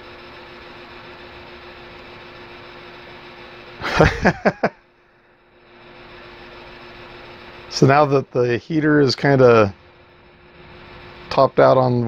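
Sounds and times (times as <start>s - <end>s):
fan hum and hiss: 0.0s - 12.0s.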